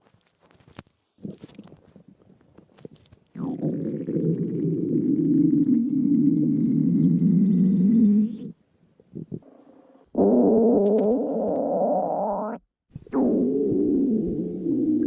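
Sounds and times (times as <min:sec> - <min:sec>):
stomach growling: 0:00.4 - 0:15.0.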